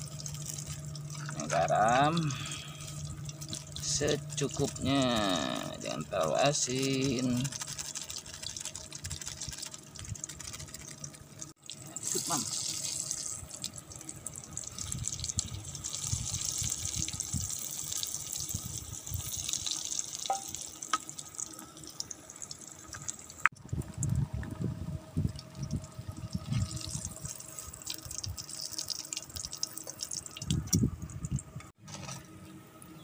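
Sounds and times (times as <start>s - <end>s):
hot oil sizzling and crackling: 0.0s - 24.0s, 25.2s - 31.4s.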